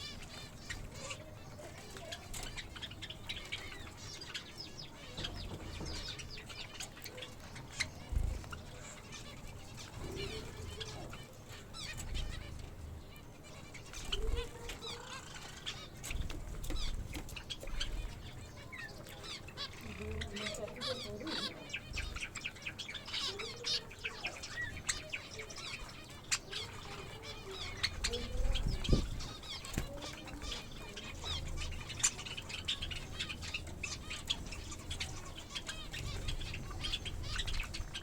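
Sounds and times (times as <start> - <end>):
finches chirping and twittering: 0.0 - 38.0
low bird calls: 0.0 - 38.0.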